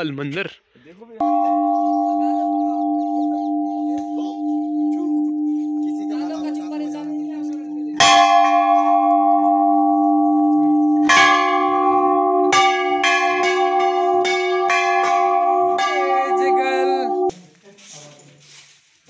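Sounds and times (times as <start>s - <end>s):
large metal bell ringing: 1.2s - 17.3s.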